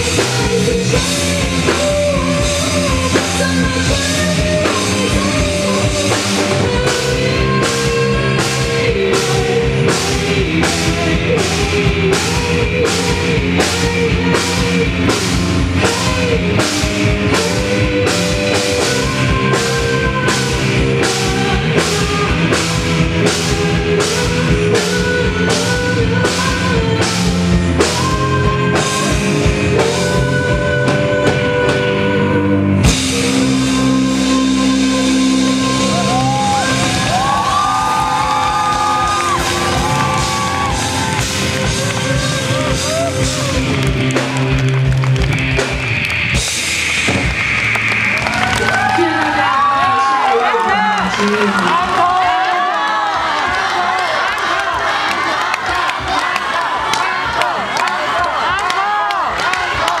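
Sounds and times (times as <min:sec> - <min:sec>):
drum kit beat: 0:00.0 - 0:32.1, 0:32.8 - 0:49.6
live rock band instrumental: 0:00.0 - 0:52.0.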